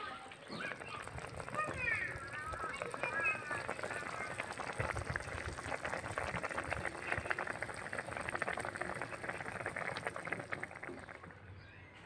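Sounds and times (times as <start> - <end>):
curry bubbling and popping: 0.0 - 11.5.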